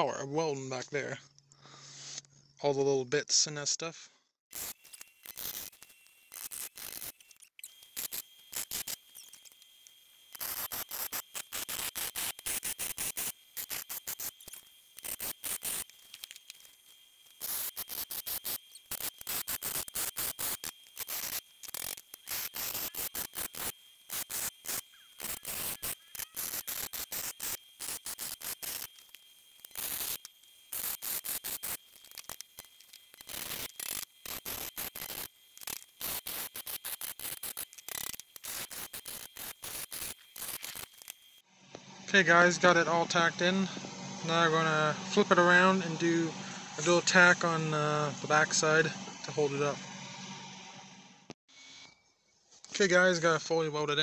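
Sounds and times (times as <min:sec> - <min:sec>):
arc welder crackling: 0:04.5 - 0:51.4
faint high whine: 0:04.5 - 0:54.0.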